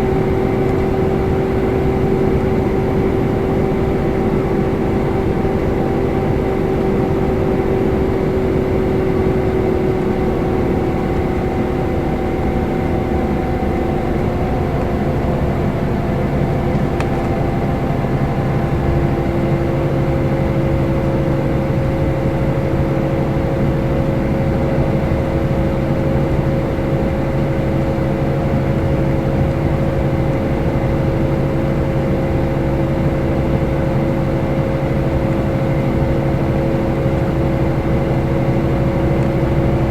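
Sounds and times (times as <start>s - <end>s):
coach engine drone: 0.0s - 39.9s.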